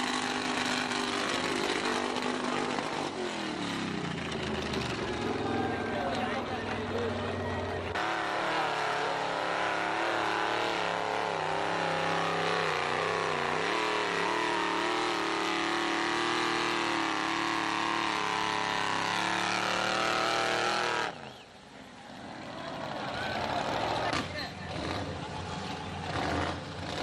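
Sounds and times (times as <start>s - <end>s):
truck engine revving hard: 0.0s - 21.4s, 22.8s - 27.0s.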